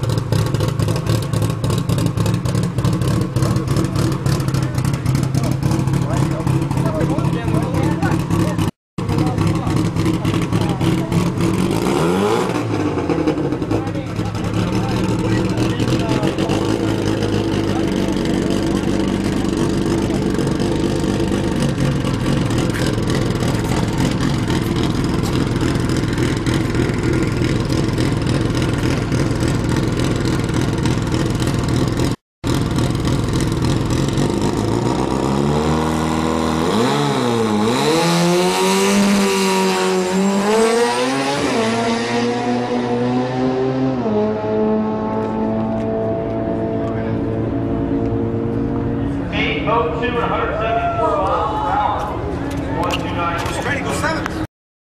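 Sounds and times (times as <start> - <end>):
race car engine revving and shifting: 0.1 - 31.5, 32.5 - 49.3.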